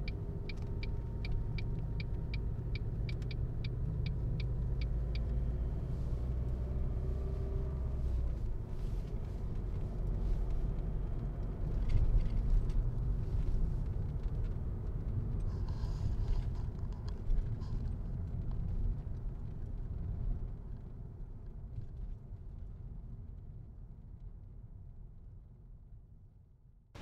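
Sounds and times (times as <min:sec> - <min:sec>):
car engine and tyres rumbling: 0:00.0 - 0:25.4.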